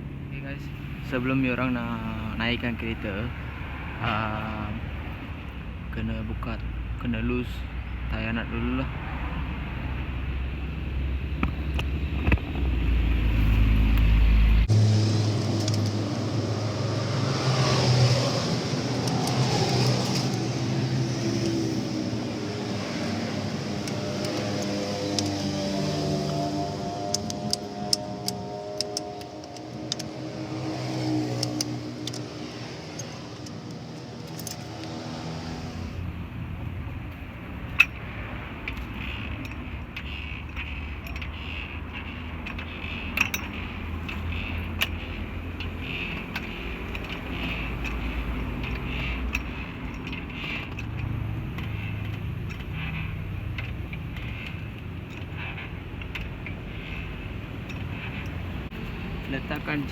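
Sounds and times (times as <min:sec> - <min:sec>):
wheel brace clanking on nuts: 0:09.9 - 0:59.9.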